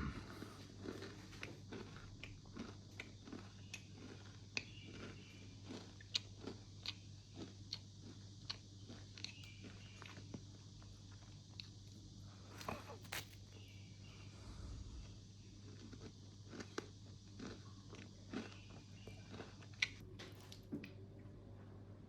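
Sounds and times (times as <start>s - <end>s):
person chewing crunchy food: 0.0s - 13.7s, 14.4s - 20.7s
low steady hum: 0.0s - 22.0s.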